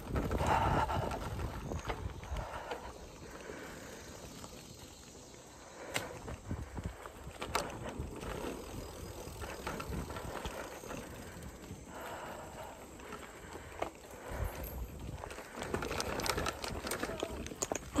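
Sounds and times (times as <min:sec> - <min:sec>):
bicycle tyres rolling on dirt: 0:00.0 - 0:18.0
bike rattling: 0:00.0 - 0:18.0.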